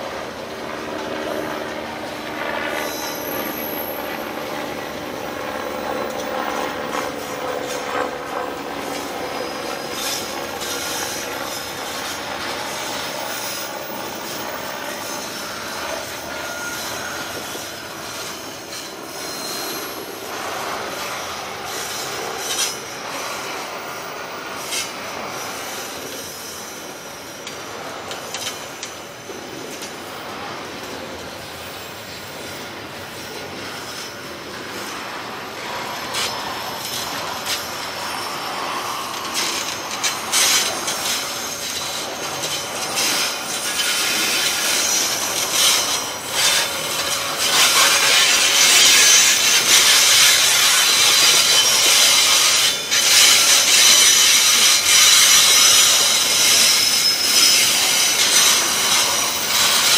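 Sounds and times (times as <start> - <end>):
freight train wheels rumbling: 0.0 - 59.9
wheels squealing: 0.5 - 59.9.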